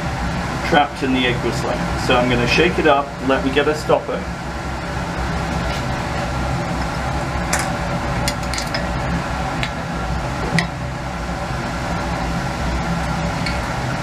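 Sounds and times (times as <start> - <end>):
ventilation hum: 0.0 - 14.0.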